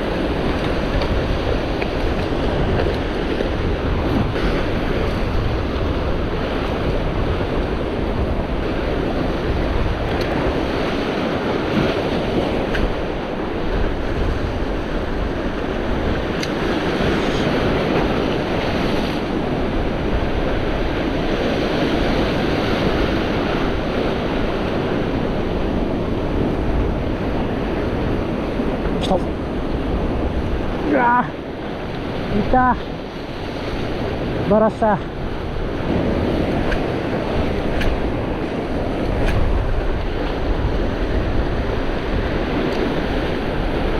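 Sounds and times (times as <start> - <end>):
surf on rocky shore: 0.0 - 43.9
wind buffeting microphone: 0.0 - 43.9.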